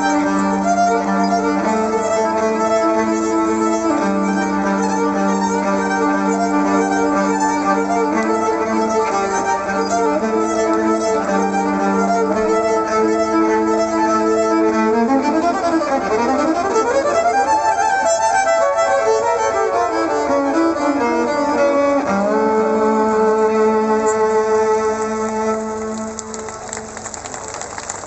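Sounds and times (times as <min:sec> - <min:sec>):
violin melody: 0:00.0 - 0:28.0.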